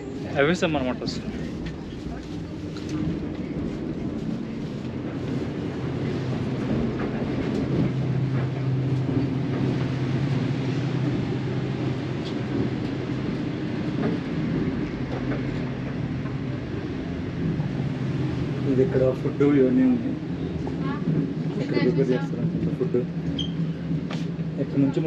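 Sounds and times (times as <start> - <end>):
train carriage rumble: 0.0 - 25.0.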